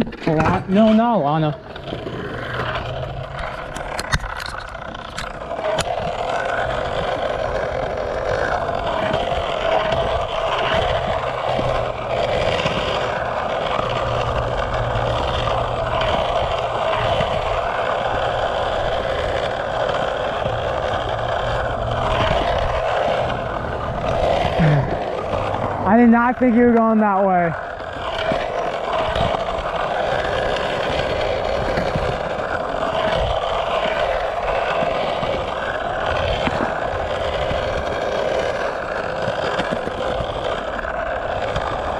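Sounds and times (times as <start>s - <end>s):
skateboard clacks: 0.0s - 41.9s
skateboard wheels rolling on concrete: 0.0s - 41.9s.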